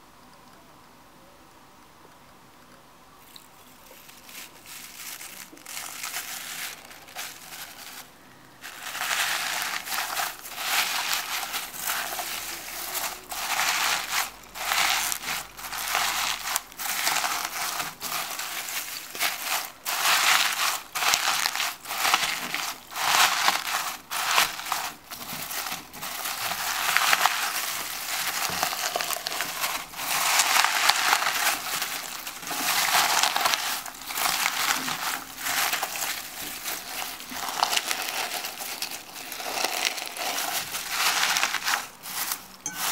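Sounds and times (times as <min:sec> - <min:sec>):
slime crunching through foam beads: 0:03.2 - 0:42.9.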